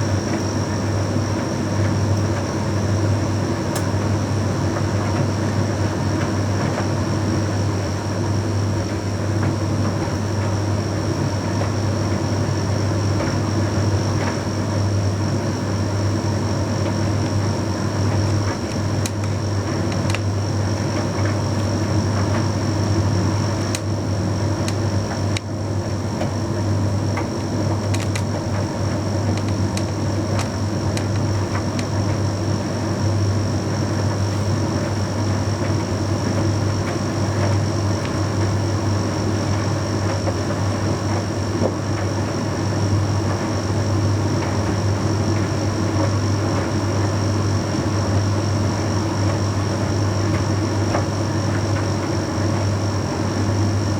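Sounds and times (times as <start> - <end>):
tumble dryer humming: 0.0 - 53.9.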